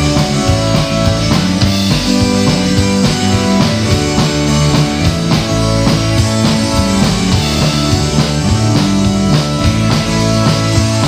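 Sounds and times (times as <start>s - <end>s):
live band playing: 0.0s - 11.0s
steady drum beat: 0.0s - 11.0s.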